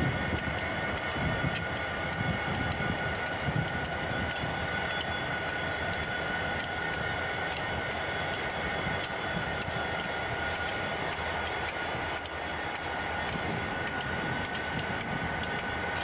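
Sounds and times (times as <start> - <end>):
diesel locomotive rumbling: 0.0 - 16.0
high whine: 0.0 - 16.0.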